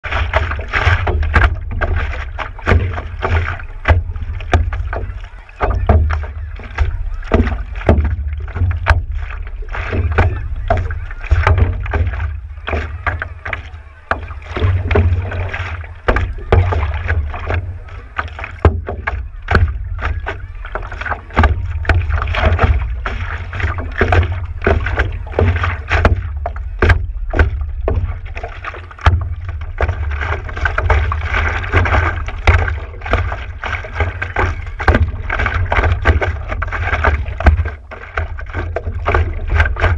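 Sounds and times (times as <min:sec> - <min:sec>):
paddle blade splashing: 0:00.0 - 0:39.9
steady low rumble: 0:00.0 - 0:39.9
water slapping against paddleboard: 0:00.0 - 0:39.9.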